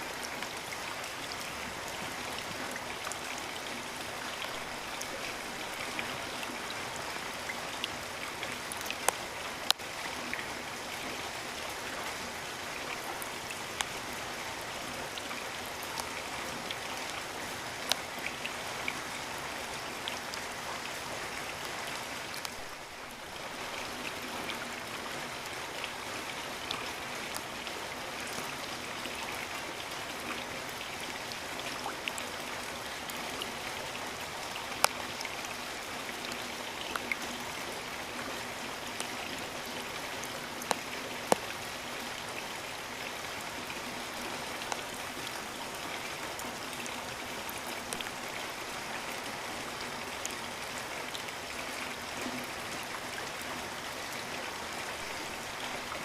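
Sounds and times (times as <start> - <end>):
rain drops striking close by: 0.0 - 56.0
steady rain hiss: 0.0 - 56.0.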